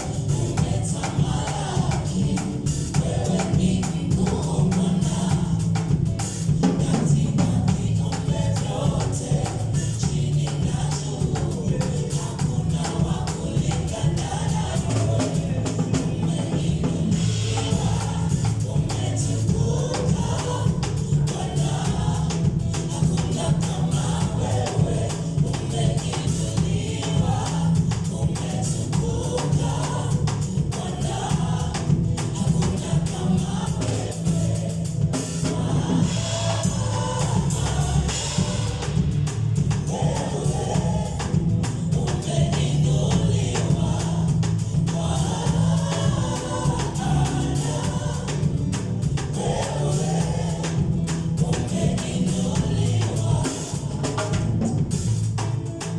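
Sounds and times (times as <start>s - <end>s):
choir and congregation singing: 0.0s - 55.9s
drum kit beat: 0.0s - 55.9s
heavy bass line: 0.0s - 55.9s.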